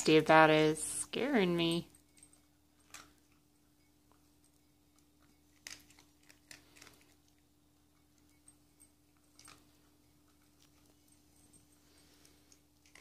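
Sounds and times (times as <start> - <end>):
faint steady hum: 0.0 - 13.0
dog chewing dry kibble: 1.9 - 13.0.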